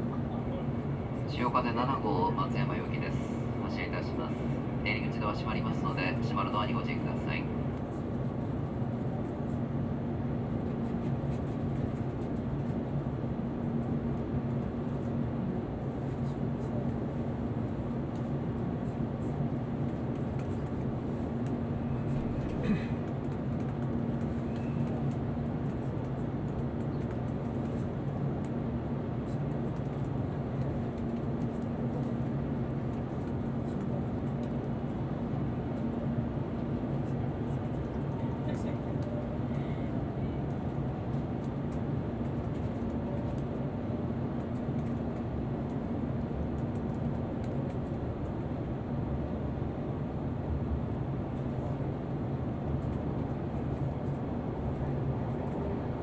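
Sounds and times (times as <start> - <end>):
train cabin hum: 0.0 - 56.0.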